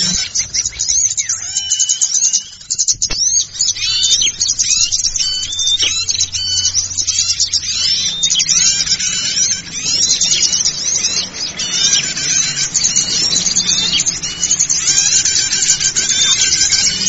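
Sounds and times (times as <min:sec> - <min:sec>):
small birds twittering and chirping: 0:00.0 - 0:17.0.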